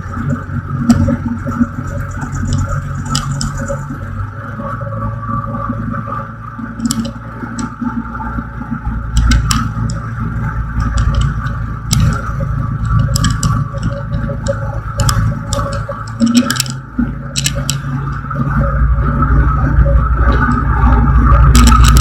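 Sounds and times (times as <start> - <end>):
sharp clicks and rattles: 0.0 - 4.2, 6.6 - 22.0
light aircraft engine running: 0.0 - 22.0.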